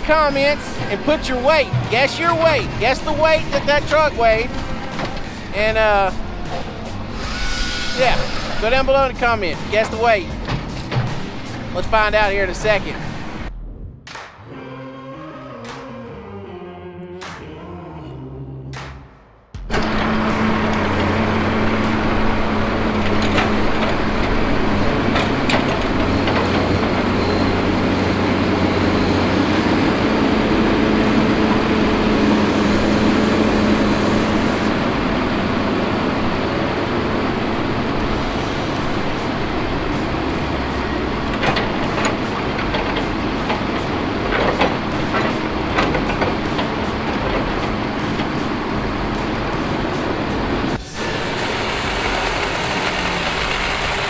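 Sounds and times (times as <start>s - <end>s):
rattles and clicks: 0.0s - 13.5s, 19.7s - 35.5s, 36.8s - 50.9s
heavy vehicle engine running: 0.0s - 13.6s, 19.7s - 54.0s.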